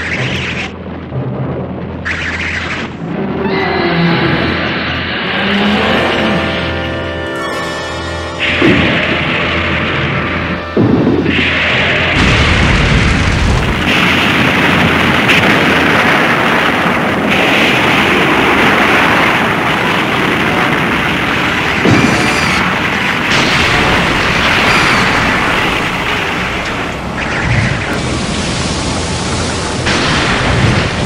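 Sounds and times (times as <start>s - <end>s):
explosions: 0.0s - 6.5s, 8.4s - 31.0s.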